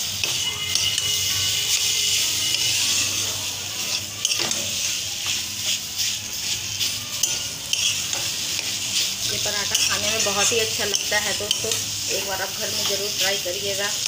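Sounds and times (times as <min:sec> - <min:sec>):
food sizzling: 0:00.0 - 0:14.0
spatula scraping steel pan: 0:00.2 - 0:13.1.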